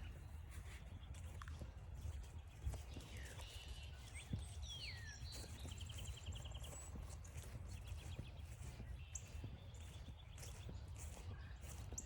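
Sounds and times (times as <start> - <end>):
footsteps on a trail: 0.0 - 12.0.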